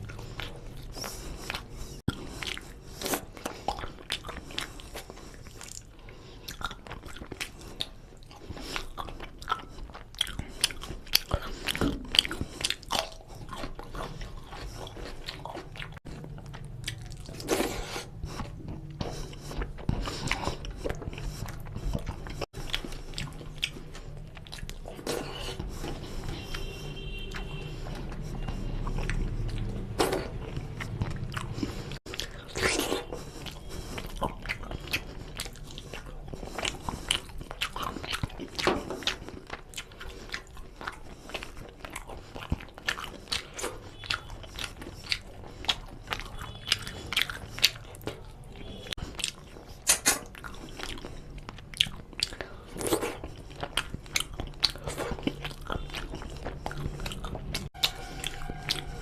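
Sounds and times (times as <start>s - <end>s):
chewing and wet mouth smacks: 0.0s - 59.0s.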